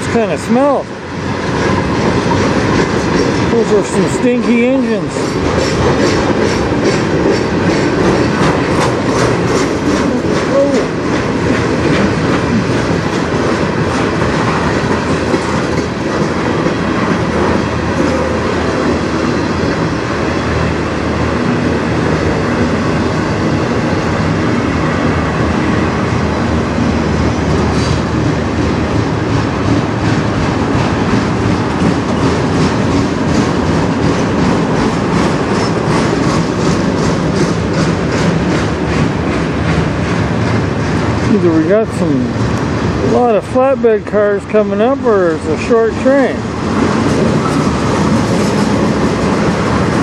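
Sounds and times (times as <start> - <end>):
train wheels rumbling on rail: 0.0 - 50.0
wheels clicking over rail joints: 1.4 - 25.1, 26.8 - 50.0.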